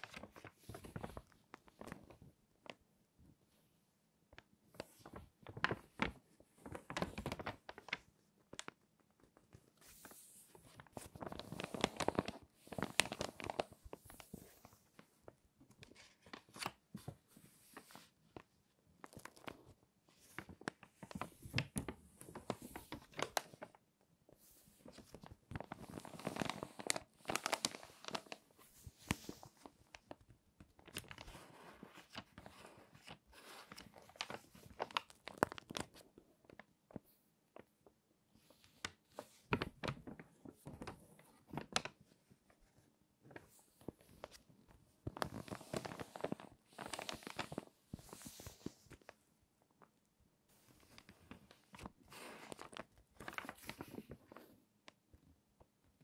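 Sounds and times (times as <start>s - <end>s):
stiff pages crackling and rustling: 0.0s - 2.8s, 4.7s - 37.1s, 38.4s - 49.2s, 50.5s - 54.6s.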